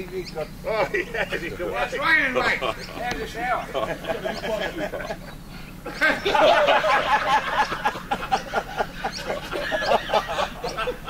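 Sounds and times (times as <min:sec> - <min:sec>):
people laughing: 0:00.6 - 0:11.0.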